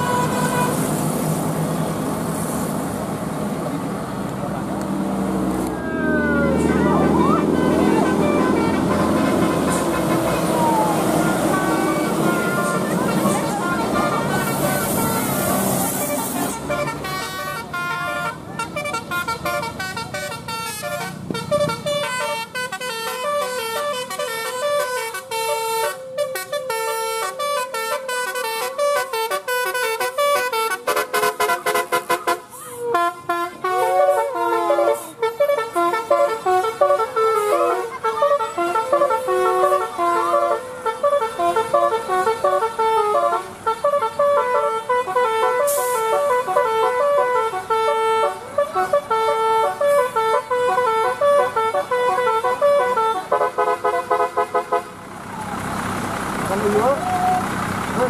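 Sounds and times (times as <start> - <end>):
musical bus horn tune: 0.0 - 1.5, 6.3 - 55.3
passing vehicle rush: 0.0 - 58.0.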